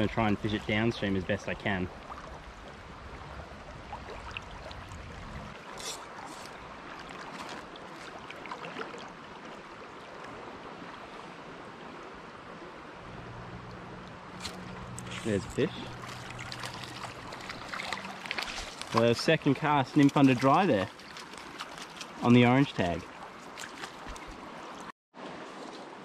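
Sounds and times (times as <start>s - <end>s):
river rippling over riffles: 0.0s - 26.0s.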